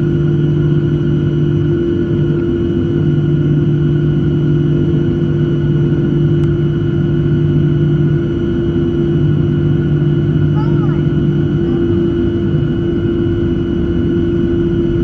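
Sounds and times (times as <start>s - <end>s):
jet engine droning: 0.0s - 15.0s.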